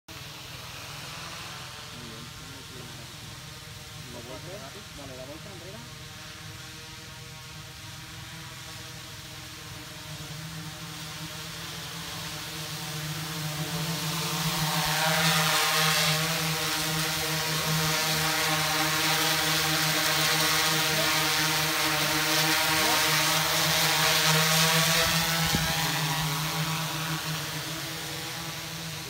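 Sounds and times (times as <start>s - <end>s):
drone propellers droning: 0.1s - 29.0s.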